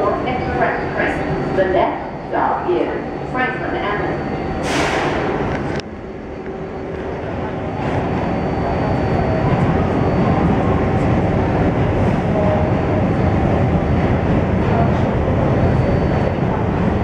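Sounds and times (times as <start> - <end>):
subway train interior rumble: 0.0 - 17.0.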